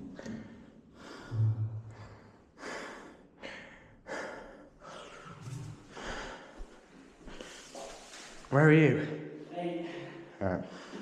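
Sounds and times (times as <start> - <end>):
person breathing hard: 0.1 - 8.0, 9.9 - 11.0.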